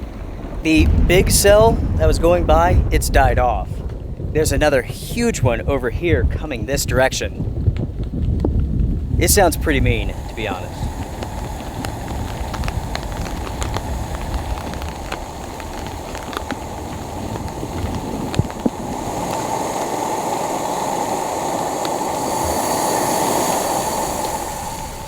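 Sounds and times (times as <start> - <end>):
rain ticking on a tarp: 0.0 - 25.0
thunder rumbling: 0.0 - 25.0.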